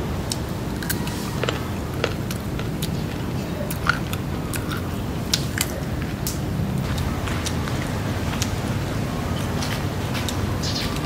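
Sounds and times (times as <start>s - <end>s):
crunching and chewing food: 0.0s - 11.0s
steady low rumble: 0.0s - 11.0s.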